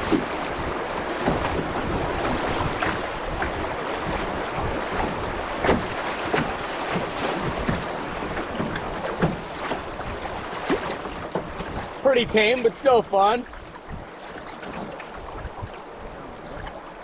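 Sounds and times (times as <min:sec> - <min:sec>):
wind on microphone: 0:00.0 - 0:10.6, 0:13.6 - 0:17.0
rushing river water: 0:00.0 - 0:17.0
water splashing against hull: 0:00.0 - 0:17.0.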